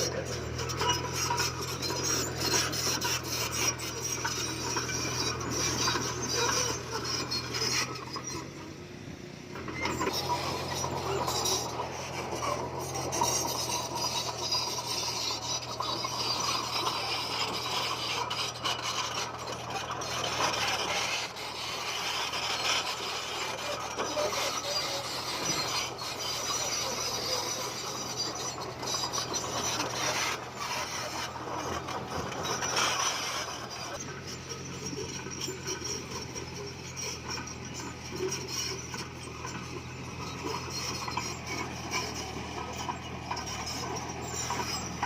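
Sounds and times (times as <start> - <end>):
stone grinding and scraping: 0.0 - 8.7, 9.6 - 45.0
bulldozer engine running: 0.0 - 45.0.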